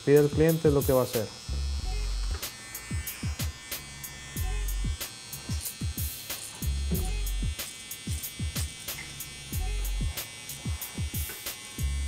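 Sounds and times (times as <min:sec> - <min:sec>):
cordless hair trimmer buzzing: 0:00.0 - 0:12.0
hip-hop beat: 0:01.5 - 0:12.0.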